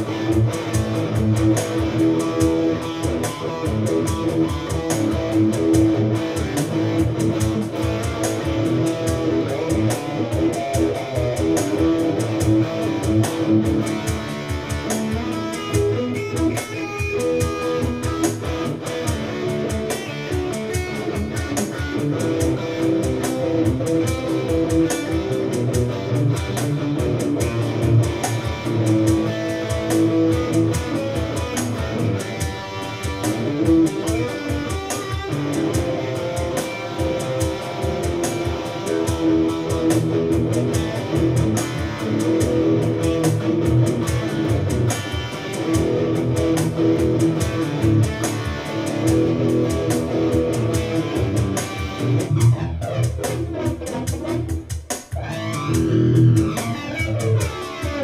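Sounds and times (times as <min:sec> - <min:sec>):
electric guitar playing: 0:00.0 - 0:58.0.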